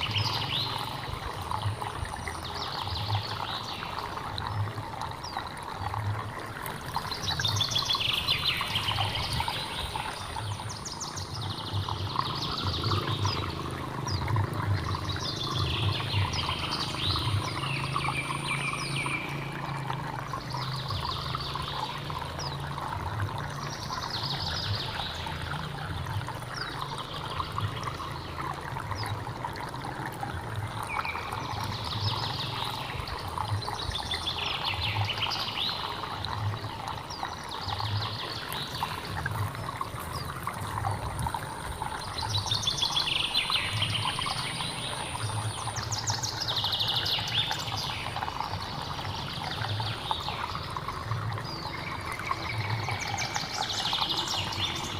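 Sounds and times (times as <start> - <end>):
water flowing and trickling: 0.0 - 54.9.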